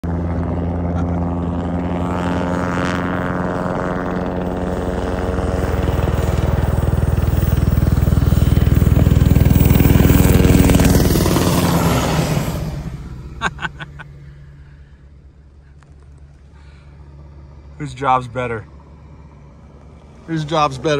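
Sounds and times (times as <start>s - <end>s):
helicopter rotor blades beating: 0.0s - 20.9s
helicopter whine: 0.0s - 20.9s.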